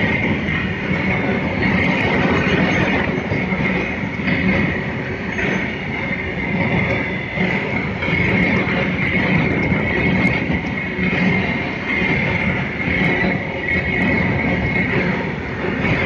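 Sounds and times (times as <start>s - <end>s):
high wheel squeal: 0.0s - 16.0s
train wheels clattering on rails: 0.0s - 16.0s.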